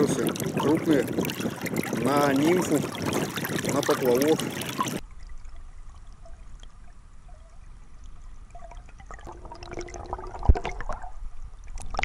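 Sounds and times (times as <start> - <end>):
muffled river water gurgling: 0.0 - 12.0.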